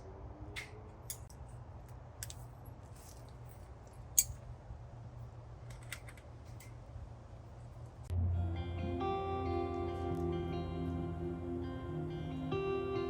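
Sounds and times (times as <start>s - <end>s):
low steady rumble: 1.1s - 13.0s.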